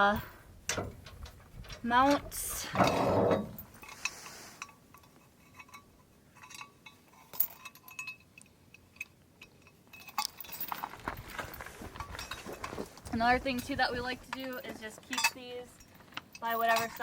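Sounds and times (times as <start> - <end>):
metal hardware clinking: 0.1 - 12.8, 13.6 - 17.0.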